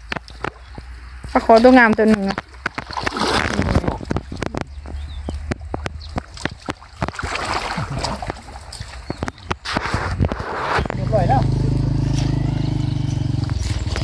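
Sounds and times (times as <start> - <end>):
water sloshing around wading person: 0.0 - 11.0, 13.1 - 14.0
loud splashes: 2.5 - 14.0.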